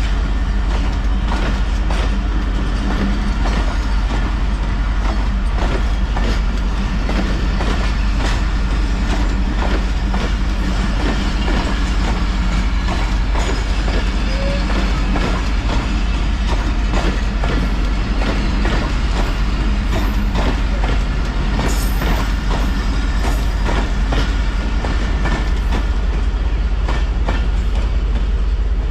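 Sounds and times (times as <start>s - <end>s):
train rumble: 0.0s - 28.9s.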